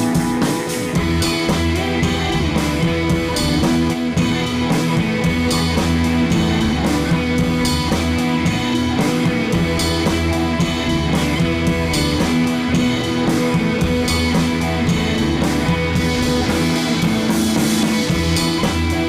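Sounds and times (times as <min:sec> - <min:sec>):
upbeat instrumental with guitar and drums: 0:00.0 - 0:19.0.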